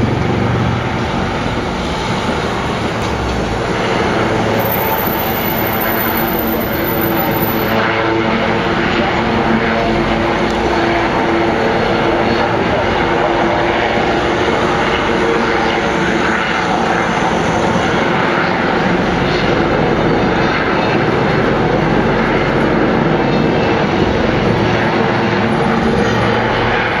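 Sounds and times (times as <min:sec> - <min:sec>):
helicopter in flight: 0:00.0 - 0:27.0.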